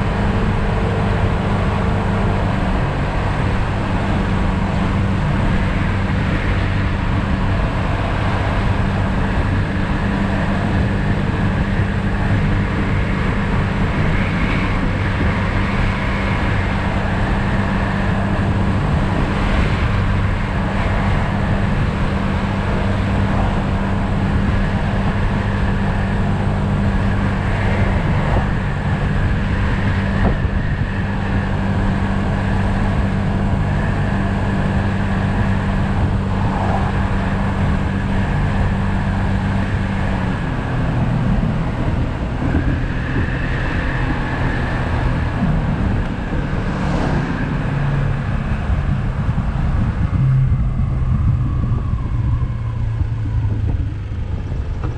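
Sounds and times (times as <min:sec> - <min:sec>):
road noise: 0:00.0 - 0:54.9.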